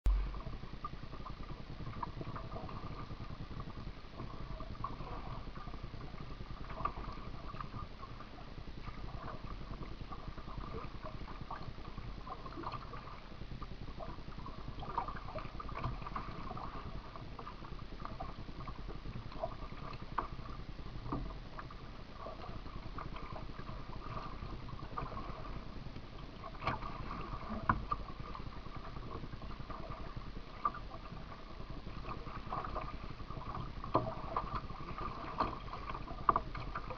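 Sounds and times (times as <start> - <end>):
water wash from paddling: 0.1 - 13.4, 14.0 - 36.9.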